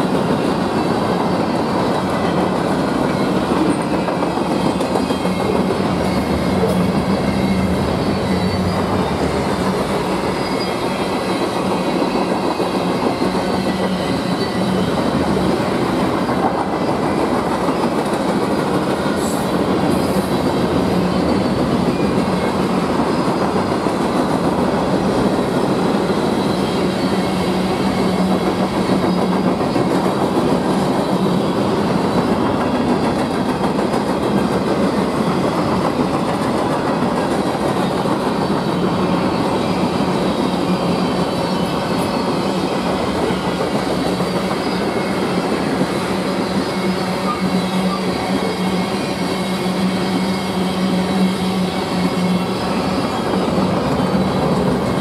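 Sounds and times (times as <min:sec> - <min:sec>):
clickety-clack over rail joints: 0:00.0 - 0:55.0
freight train wheels rumbling: 0:00.0 - 0:55.0.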